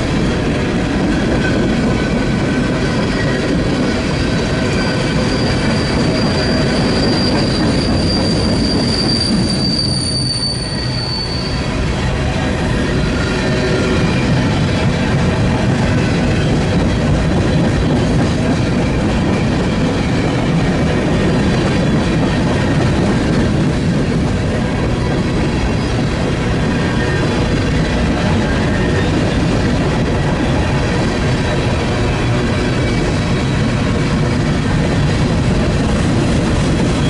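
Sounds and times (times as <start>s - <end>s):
train wheels rumbling on rails: 0.0s - 37.0s
high wheel squeal: 2.8s - 23.6s, 24.7s - 34.3s.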